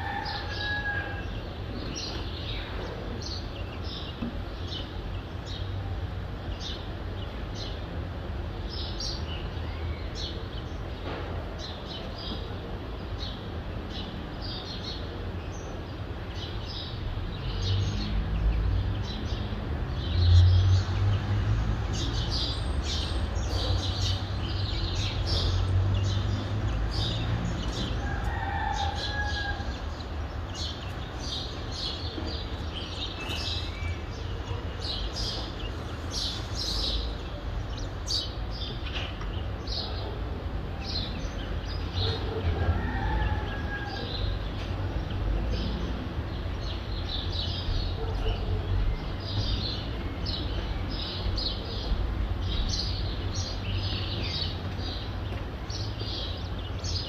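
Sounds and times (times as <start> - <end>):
distant city traffic rumble: 0.0 - 57.0.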